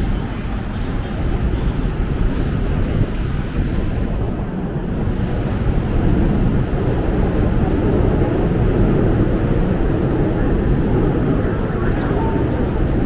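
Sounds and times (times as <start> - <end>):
city street noise: 0.0 - 13.0.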